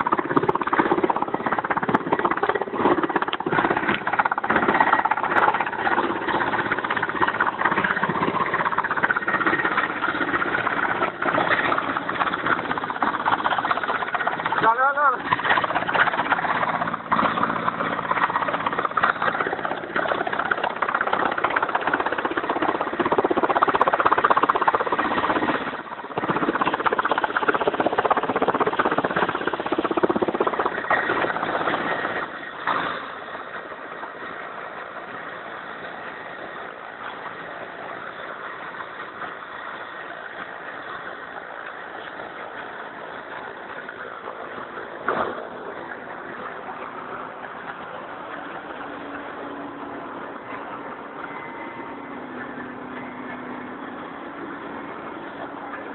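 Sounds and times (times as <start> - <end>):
helicopter turbine and rotor: 0.0 - 55.9.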